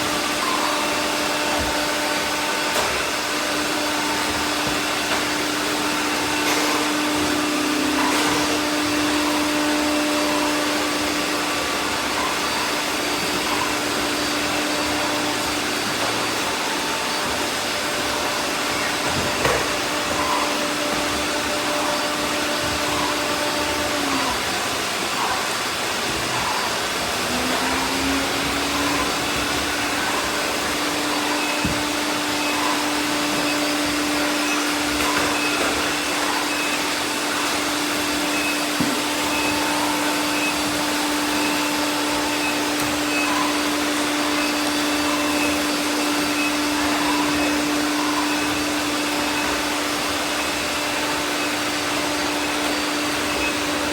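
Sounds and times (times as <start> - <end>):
motor hums: 0.0 - 53.9
robot vacuums whirring: 0.0 - 53.9.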